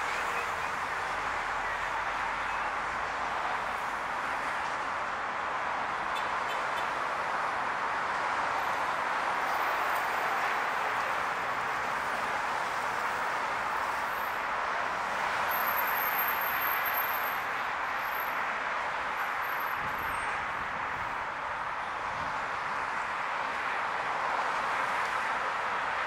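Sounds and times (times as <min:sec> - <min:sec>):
highway traffic: 0:00.0 - 0:26.0.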